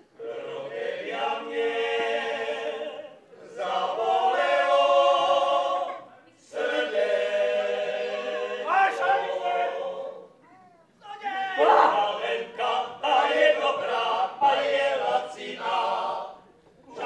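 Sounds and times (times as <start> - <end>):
group singing unaccompanied: 0.0 - 10.4, 11.5 - 17.0.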